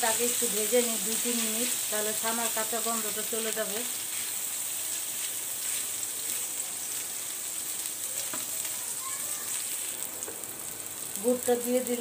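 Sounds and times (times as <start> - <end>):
cheese curds sizzling in pan: 0.0 - 12.0.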